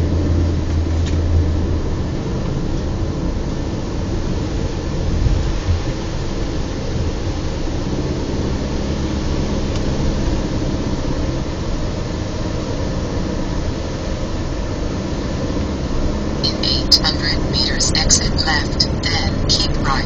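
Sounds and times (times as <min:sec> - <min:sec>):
car engine hum: 0:00.0 - 0:20.0
tyre and road noise: 0:00.0 - 0:20.0.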